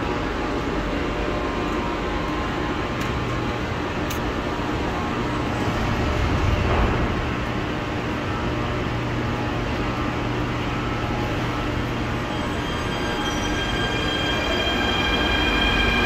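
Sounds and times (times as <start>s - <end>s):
metro train humming: 0.0s - 16.0s.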